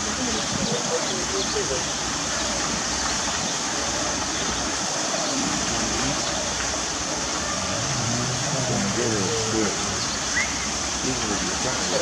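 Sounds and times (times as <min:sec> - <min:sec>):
waterfall pouring over rocks: 0:00.0 - 0:12.0.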